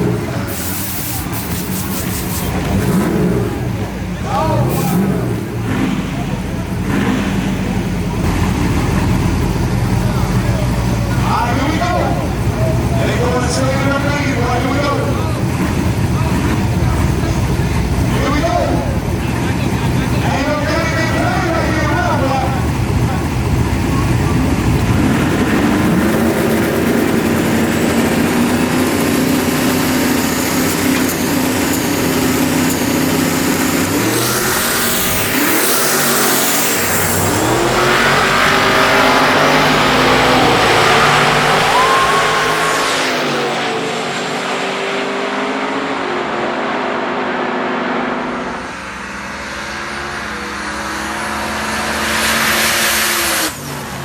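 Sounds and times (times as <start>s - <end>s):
racing car engine idling: 0.0s - 45.3s
loud rushing noise: 0.0s - 54.0s.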